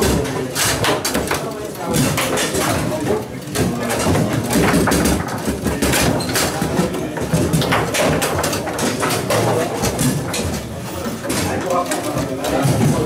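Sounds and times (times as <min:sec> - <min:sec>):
foosball ball clacking: 0:00.0 - 0:13.0.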